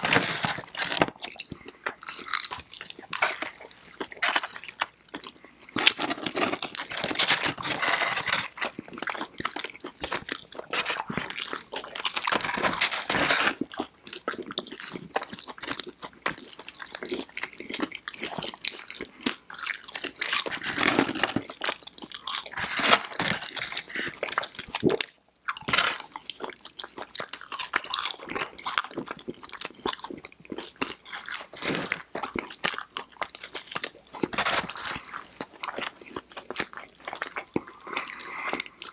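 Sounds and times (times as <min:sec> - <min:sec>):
people chewing crunchy food: 0:00.0 - 0:38.9.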